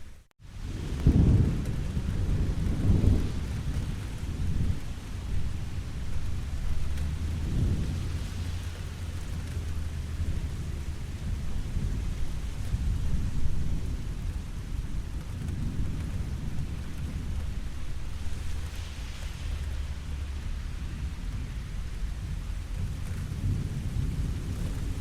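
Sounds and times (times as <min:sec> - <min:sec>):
steady rain: 0:00.0 - 0:25.0
distant thunder rumbling: 0:00.5 - 0:25.0.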